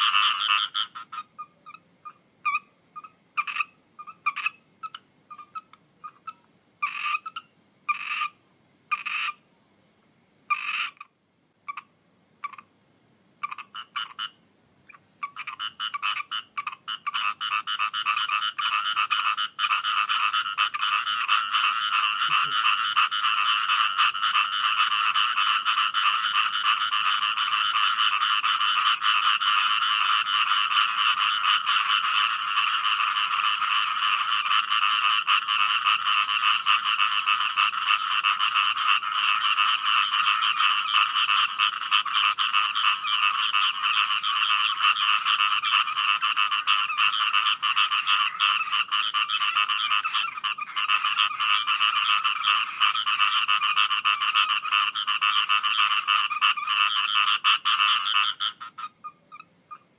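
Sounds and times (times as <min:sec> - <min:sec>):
chorus of frogs croaking: 0:00.0 - 0:59.9.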